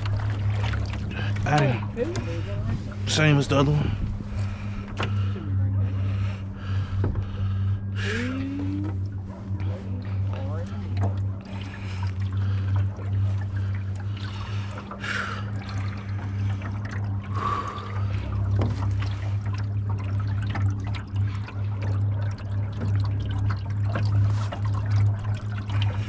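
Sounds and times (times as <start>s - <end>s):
boat motor humming: 0.0s - 26.0s
water splashing along hull: 0.0s - 26.0s.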